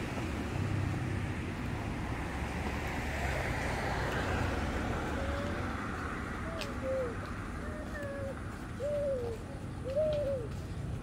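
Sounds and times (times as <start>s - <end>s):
car passing: 0.0s - 11.0s
road traffic noise: 0.0s - 11.0s.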